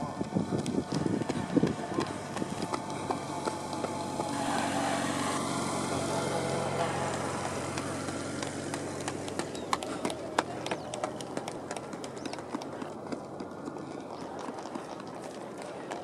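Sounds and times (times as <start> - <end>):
vehicle engine passing: 0.1 - 14.4.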